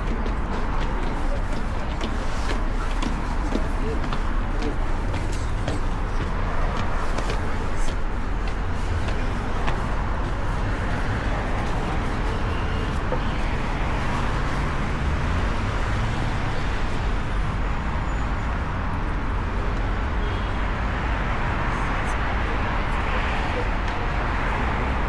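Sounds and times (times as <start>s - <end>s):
city street traffic rumble: 0.0s - 25.0s.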